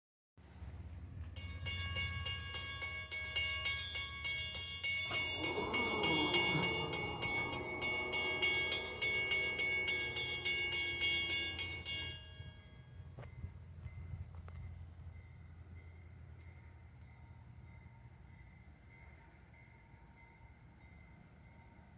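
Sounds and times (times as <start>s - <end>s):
passing train: 0.4s - 21.9s
railroad crossing bell ringing: 1.1s - 21.9s.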